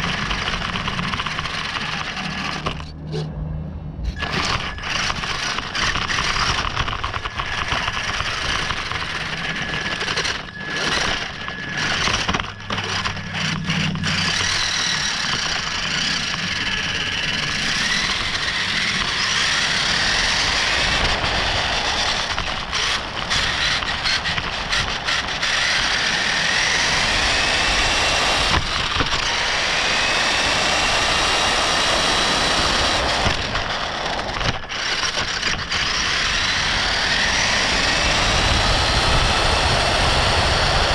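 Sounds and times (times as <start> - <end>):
toy car motor whine: 0.0 - 3.3, 4.1 - 40.9.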